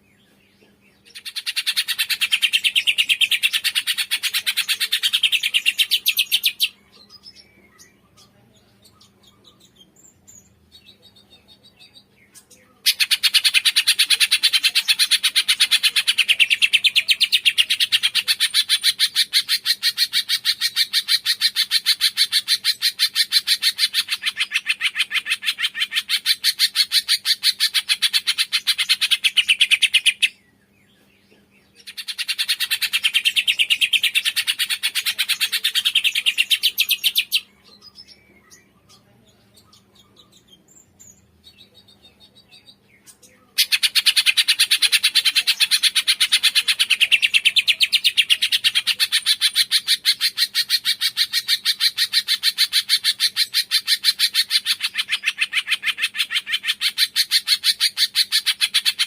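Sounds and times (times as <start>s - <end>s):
faint bird chirps: 0.0s - 59.0s
songbird rapid chattering song: 0.0s - 59.0s.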